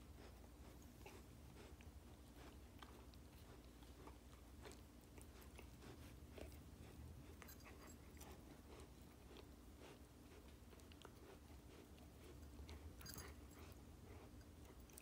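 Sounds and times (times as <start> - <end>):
low steady background hum: 0.0 - 15.0
puppy chewing and licking toy: 0.0 - 15.0.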